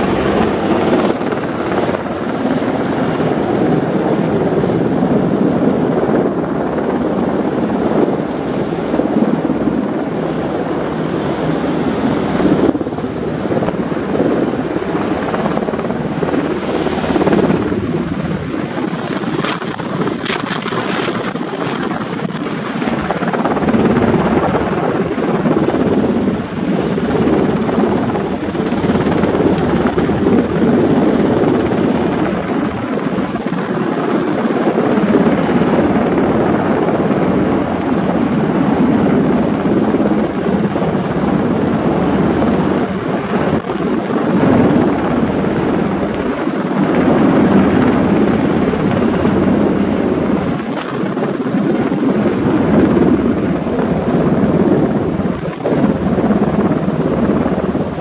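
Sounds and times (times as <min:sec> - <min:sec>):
helicopter rotor and engines: 0:00.0 - 0:58.0.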